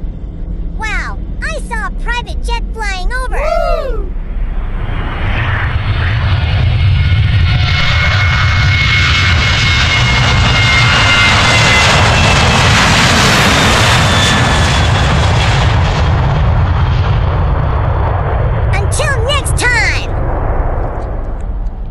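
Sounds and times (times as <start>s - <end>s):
jet aircraft passing overhead: 4.1s - 21.9s.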